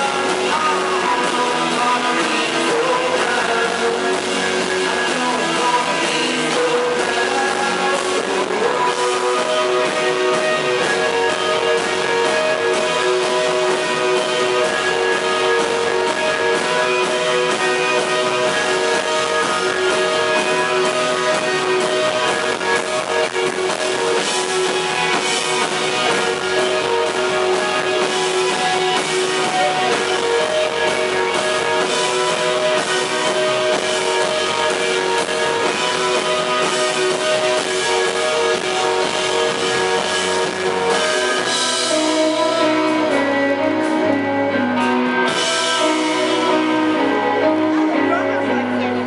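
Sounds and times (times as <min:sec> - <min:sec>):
drums: 0:00.0 - 0:49.0
electric guitar: 0:00.0 - 0:49.0
keyboards: 0:00.0 - 0:49.0.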